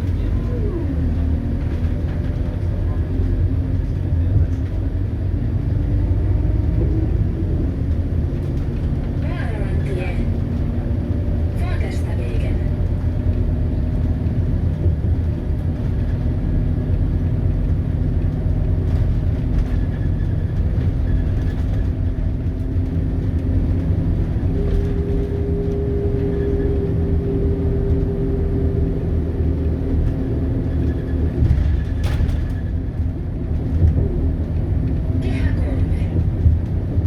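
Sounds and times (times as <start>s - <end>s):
bus diesel engine droning: 0.0s - 37.0s.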